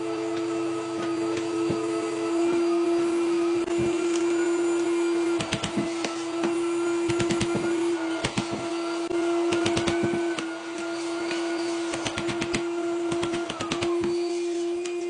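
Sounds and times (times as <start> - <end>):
electric power tool humming: 0.0 - 15.0.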